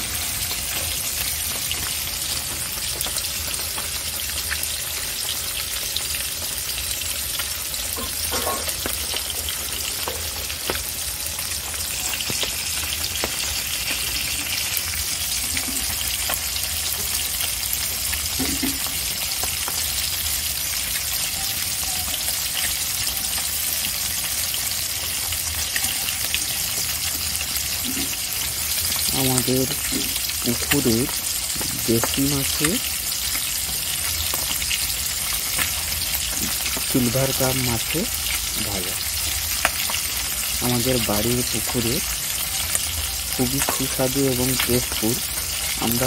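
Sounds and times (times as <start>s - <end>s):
fish sizzling in hot oil: 0.0s - 46.0s.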